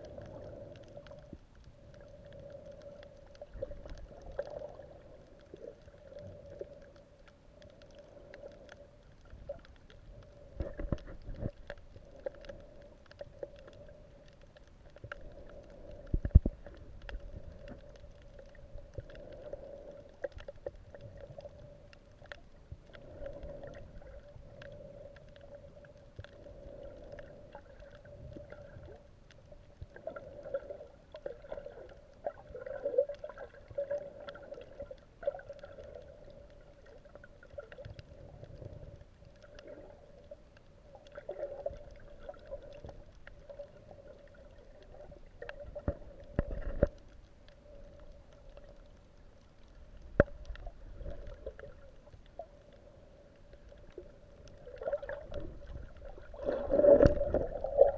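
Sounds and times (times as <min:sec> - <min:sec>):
low water rumbles: 0:00.0 - 0:57.9
small underwater clicks: 0:00.0 - 0:57.9
underwater hum: 0:00.0 - 0:57.9.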